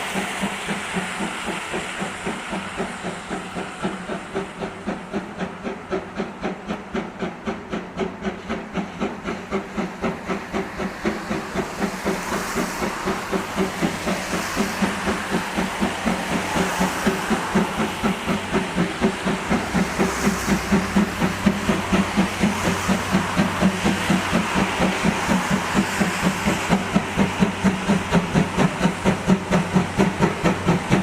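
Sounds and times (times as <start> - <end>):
steam hissing: 0.0 - 31.0
steam locomotive chuffing: 0.0 - 31.0.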